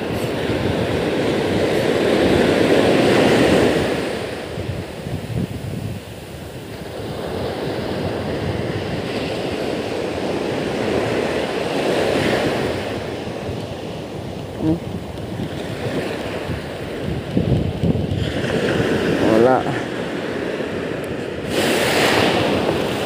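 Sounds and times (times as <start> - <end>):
sea surf breaking: 0.0 - 23.0
wind buffeting microphone: 0.0 - 23.0.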